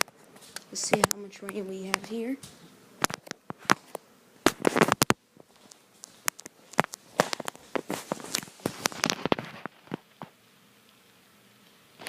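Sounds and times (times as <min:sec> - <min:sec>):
footsteps: 0:00.0 - 0:10.4.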